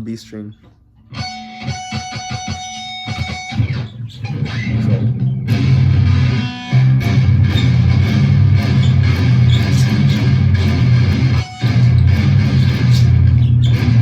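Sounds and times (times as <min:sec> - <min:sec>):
guitar harmonic ringing: 0:01.0 - 0:14.0
low chugging electric guitar riff: 0:01.1 - 0:14.0.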